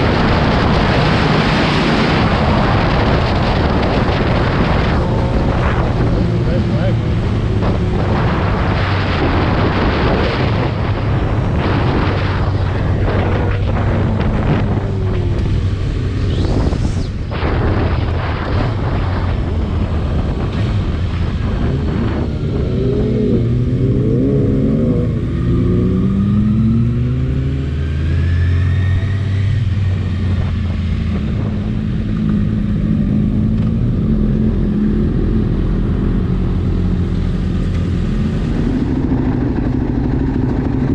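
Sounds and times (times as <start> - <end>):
dense noisy rush: 0.0 - 40.9
motorcycle engine revving: 0.0 - 40.9.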